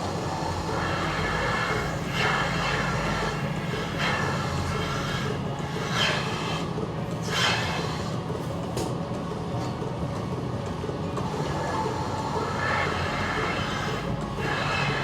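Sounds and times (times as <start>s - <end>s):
machinery hum and rumble: 0.0s - 15.0s.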